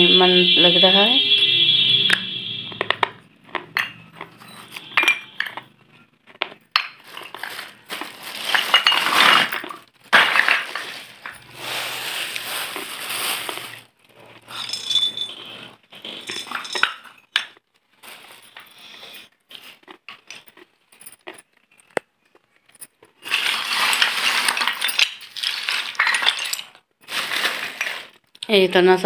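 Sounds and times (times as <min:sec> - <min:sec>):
clay pots clinking and scraping: 0:02.8 - 0:28.2.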